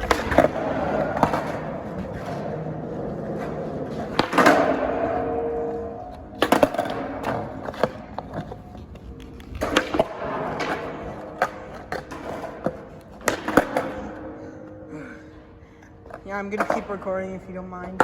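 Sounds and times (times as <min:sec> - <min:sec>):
skateboard clacking on ground: 0:00.0 - 0:14.9, 0:15.8 - 0:18.0
skateboard wheels rolling on concrete: 0:00.0 - 0:18.0.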